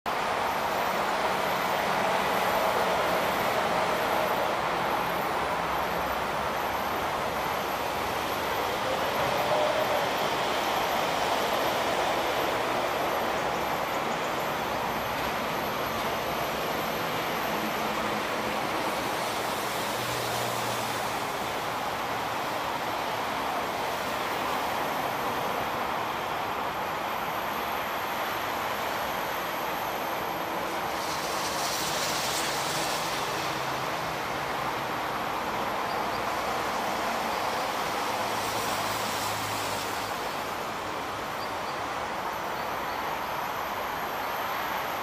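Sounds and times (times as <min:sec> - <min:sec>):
even hiss: 0:00.2 - 0:45.0.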